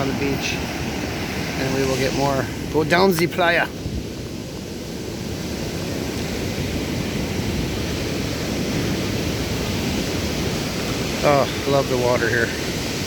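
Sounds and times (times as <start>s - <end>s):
ocean waves breaking on beach: 0.0s - 13.0s.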